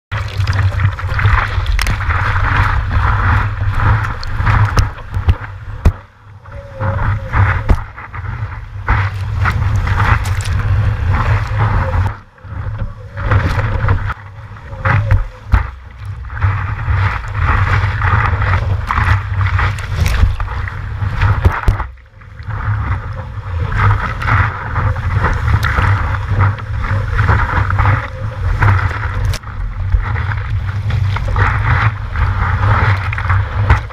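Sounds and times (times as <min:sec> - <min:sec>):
water rushing and splashing: 0:00.1 - 0:33.9
wind buffeting microphone: 0:00.1 - 0:33.9.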